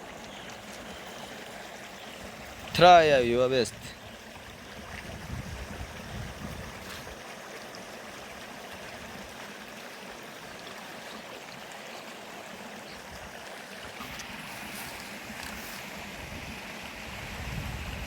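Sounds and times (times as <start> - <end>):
river water rushing: 0.0 - 4.9, 6.8 - 17.3.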